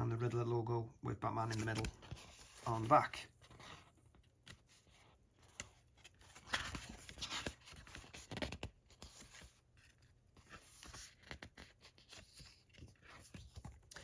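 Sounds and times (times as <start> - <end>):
paper rustling and scraping: 1.4 - 14.0.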